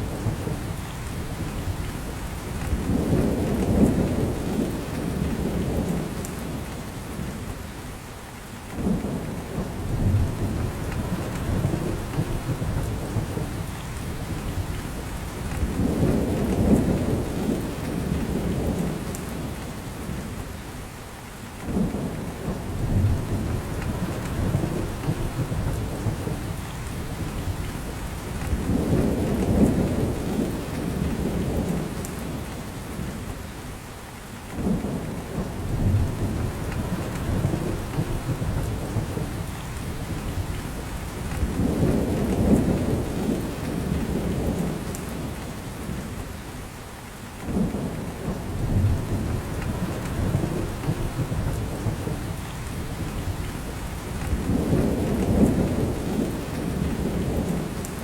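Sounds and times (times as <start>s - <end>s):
rain pattering in forest: 0.0s - 58.0s.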